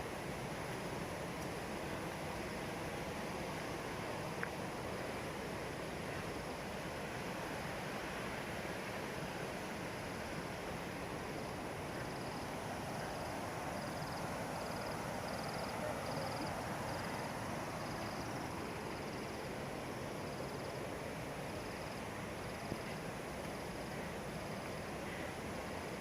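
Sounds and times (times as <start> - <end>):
insect chirping: 0.0 - 26.0.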